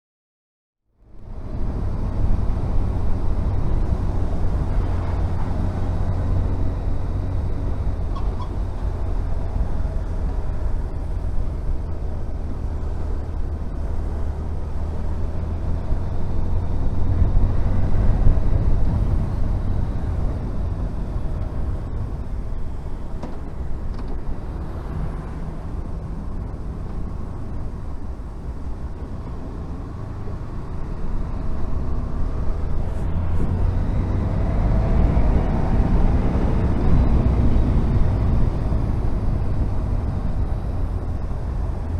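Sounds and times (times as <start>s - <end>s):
wind and road noise: 0.8s - 41.9s.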